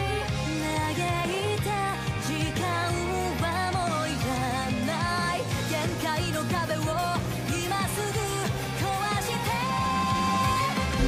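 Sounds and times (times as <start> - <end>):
pop song with singer and band: 0.0 - 11.0.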